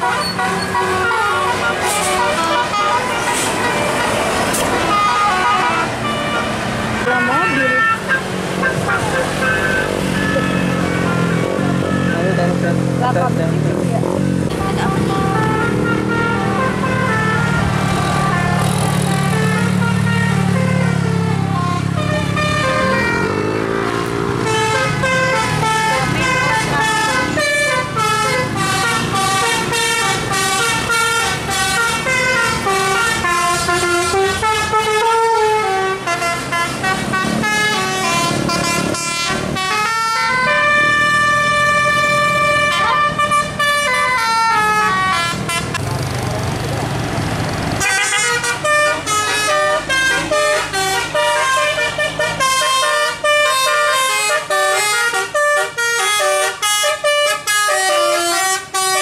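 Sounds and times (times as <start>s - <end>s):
musical air horn tune: 0.0s - 12.3s, 14.5s - 45.8s, 47.8s - 59.0s.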